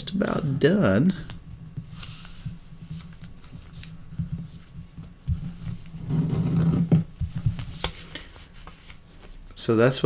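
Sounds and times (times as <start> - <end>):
paper rustling and crinkling: 1.1 - 9.4.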